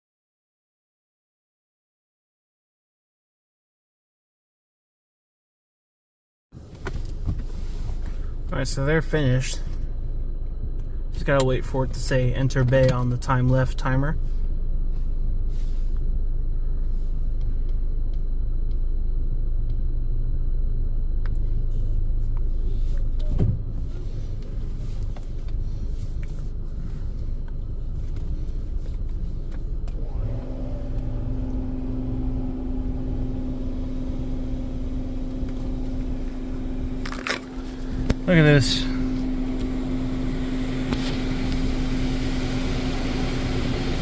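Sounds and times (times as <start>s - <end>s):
car idling from inside: 6.6s - 44.0s
steady hum: 6.6s - 44.0s.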